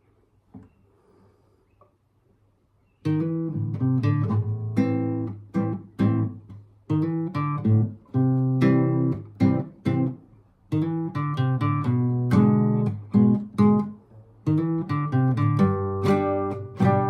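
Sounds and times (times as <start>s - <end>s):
acoustic guitar strumming chords: 3.1s - 17.0s.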